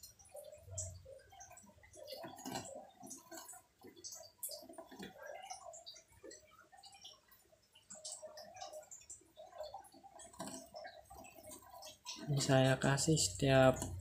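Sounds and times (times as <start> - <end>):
light water sounds: 0.0 - 14.0.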